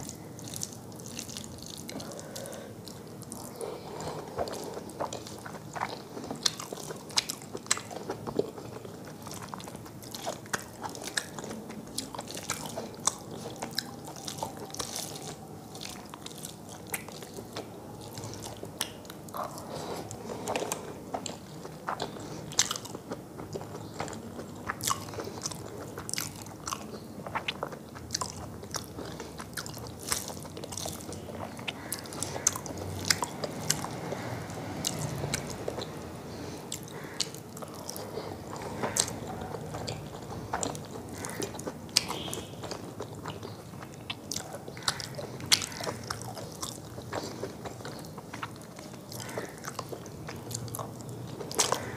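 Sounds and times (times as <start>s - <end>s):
person chewing and crunching food: 0.0s - 51.9s.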